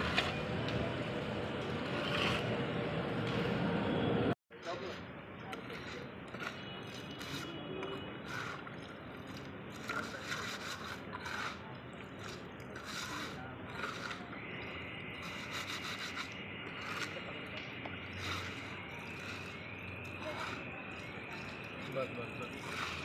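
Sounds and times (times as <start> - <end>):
trowel scraping cement and gravel: 1.6 - 2.7, 4.7 - 23.0.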